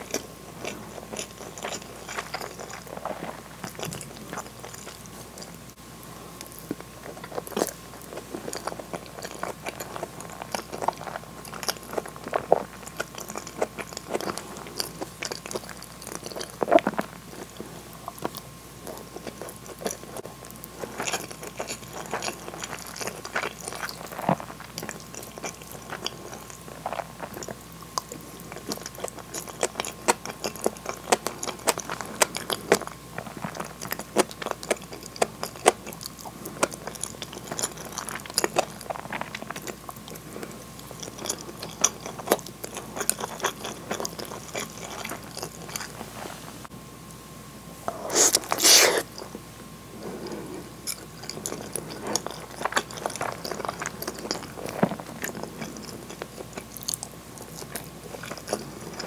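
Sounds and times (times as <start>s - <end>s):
person chewing with wet smacks: 0.0s - 5.8s, 6.4s - 46.2s, 47.9s - 49.4s, 50.0s - 59.0s.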